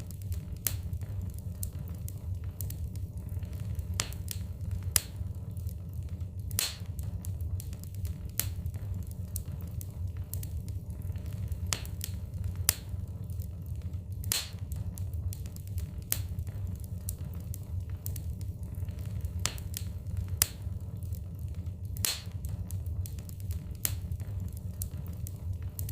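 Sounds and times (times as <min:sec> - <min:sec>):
low fire rumble: 0:00.0 - 0:25.9
wood fire crackling and popping: 0:00.0 - 0:25.9.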